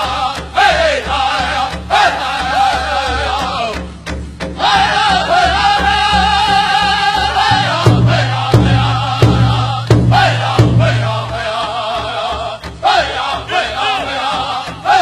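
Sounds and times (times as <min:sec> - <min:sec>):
chanting vocals: 0:00.0 - 0:15.0
steady drum beat: 0:00.0 - 0:15.0.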